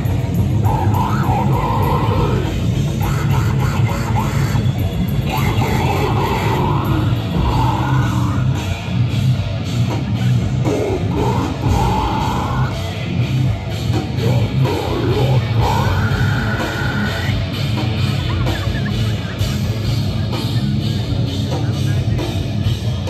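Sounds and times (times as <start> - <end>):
drum kit: 0.0 - 23.0
electric guitars: 0.0 - 23.0.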